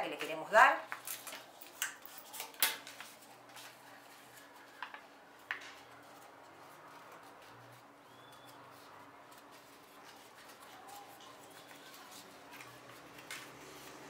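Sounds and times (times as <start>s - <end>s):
paper crinkling: 0.9s - 14.0s.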